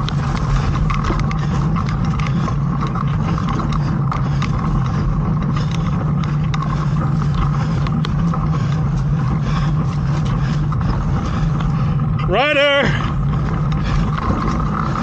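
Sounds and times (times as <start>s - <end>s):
bike clicking and rattling: 0.0s - 15.0s
tyres humming on dirt: 0.0s - 15.0s.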